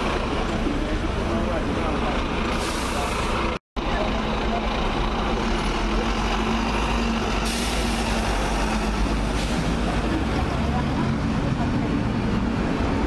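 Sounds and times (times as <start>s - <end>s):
bus diesel engine: 0.0s - 13.0s
road traffic noise: 0.0s - 13.0s.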